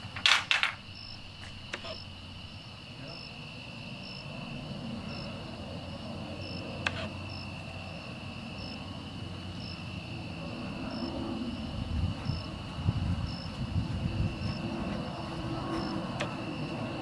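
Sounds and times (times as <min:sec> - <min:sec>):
crickets chirping: 0:00.0 - 0:17.0
high insect drone: 0:00.0 - 0:17.0.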